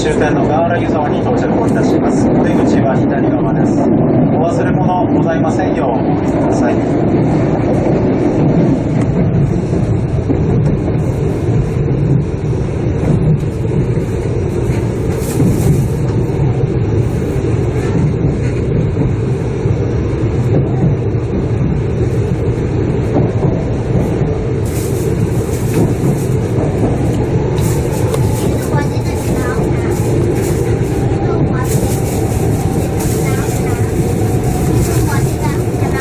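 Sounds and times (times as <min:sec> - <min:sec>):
train wheels rumbling inside car: 0:00.0 - 0:36.0.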